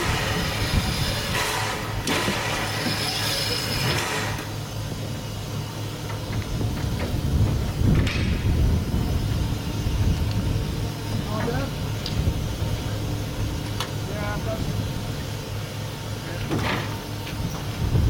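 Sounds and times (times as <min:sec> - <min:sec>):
steady low rumble: 0:00.0 - 0:18.0
steam locomotive hissing: 0:00.0 - 0:18.0.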